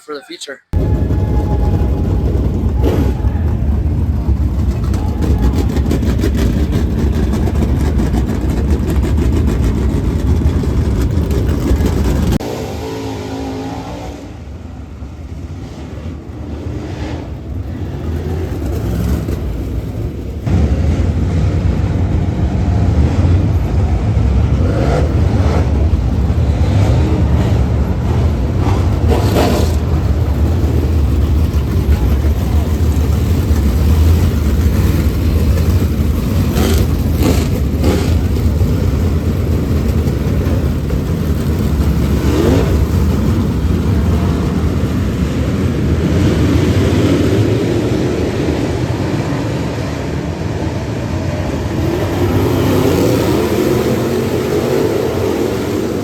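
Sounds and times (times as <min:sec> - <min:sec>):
race car engine droning: 0:00.7 - 0:56.0.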